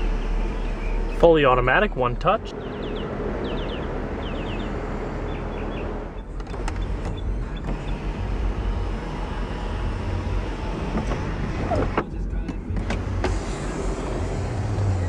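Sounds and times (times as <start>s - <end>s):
car engine idling: 0.0s - 15.0s
sunroof motor running: 0.0s - 15.0s.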